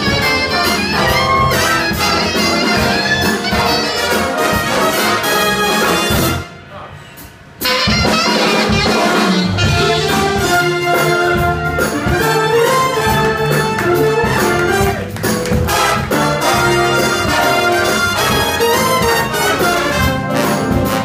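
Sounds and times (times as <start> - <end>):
jazz big band playing: 0.0 - 21.0.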